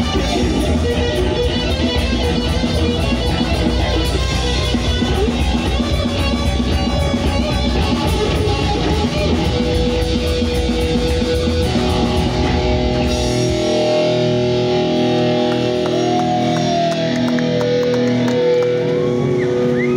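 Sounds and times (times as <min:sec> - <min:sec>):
live heavy metal band: 0:00.0 - 0:19.9
ringing guitar notes: 0:00.0 - 0:19.9.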